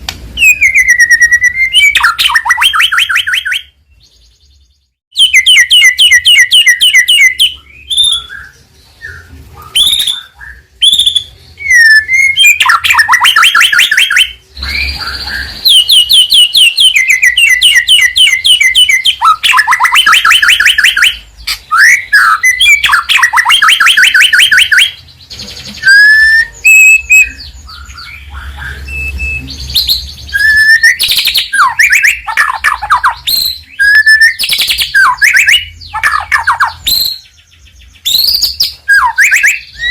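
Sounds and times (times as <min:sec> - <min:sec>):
bird singing rapid notes: 0:00.4 - 0:39.9.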